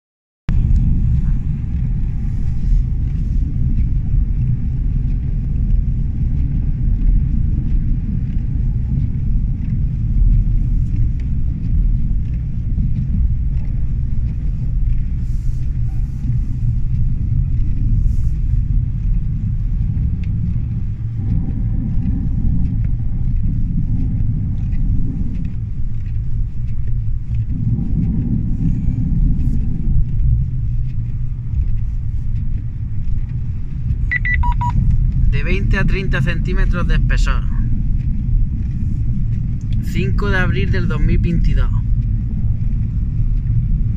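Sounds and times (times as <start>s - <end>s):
road noise: 0.5s - 43.9s
vehicle engine rumble: 0.5s - 43.9s.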